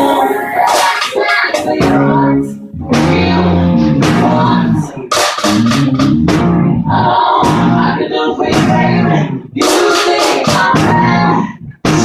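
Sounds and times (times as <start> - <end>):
live band playing soul-pop: 0.0 - 12.0.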